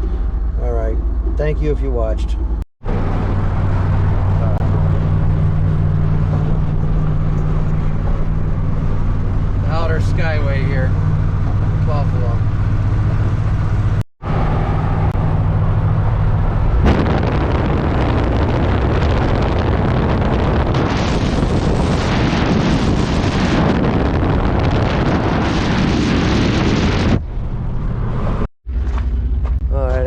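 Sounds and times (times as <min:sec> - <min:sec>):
vehicle engine droning: 0:00.0 - 0:30.0
wind and road noise: 0:00.0 - 0:30.0.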